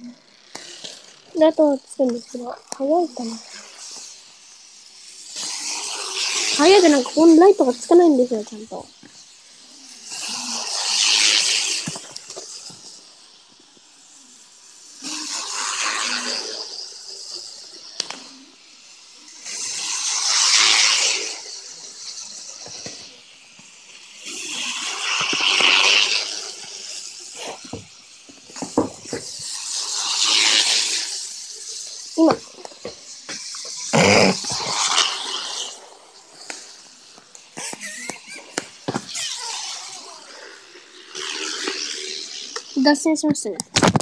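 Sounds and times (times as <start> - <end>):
model train passing with hiss: 0.0 - 44.0.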